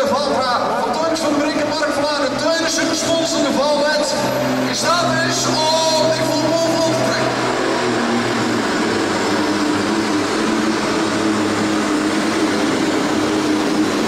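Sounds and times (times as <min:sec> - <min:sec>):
tractor engine running hard: 0:00.0 - 0:14.0.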